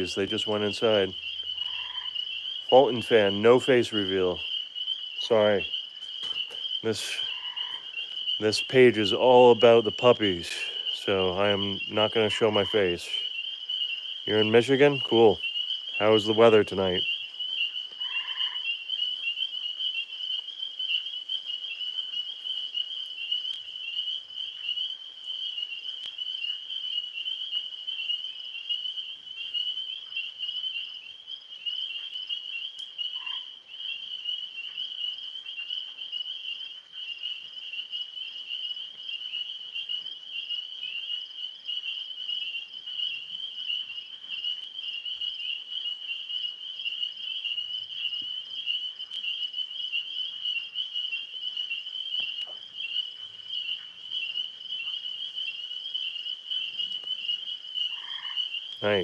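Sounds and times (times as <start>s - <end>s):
tree frogs chorus: 0.0s - 59.0s.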